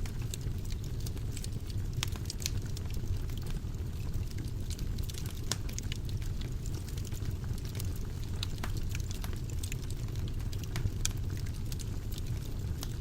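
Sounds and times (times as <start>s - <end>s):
fire burning in a fireplace: 0.0s - 13.0s
fire crackles and pops: 0.0s - 13.0s.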